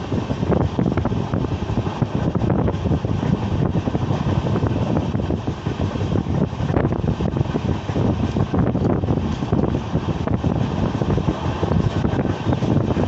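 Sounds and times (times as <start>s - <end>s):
train running rumble: 0.0s - 13.0s
wind buffeting microphone: 0.0s - 13.0s.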